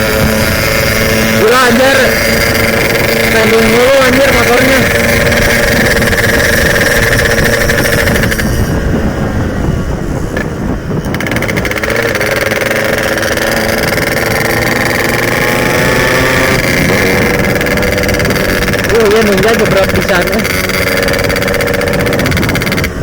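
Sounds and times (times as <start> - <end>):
two-stroke motorcycle engine: 0.0 - 23.0.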